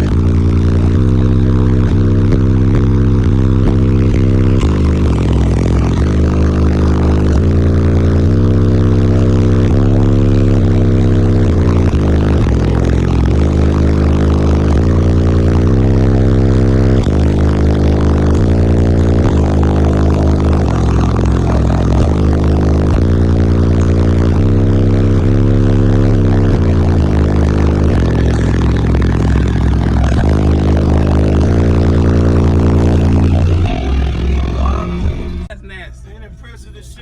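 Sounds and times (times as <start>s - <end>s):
bass-heavy music through car subwoofers: 0.0s - 37.0s.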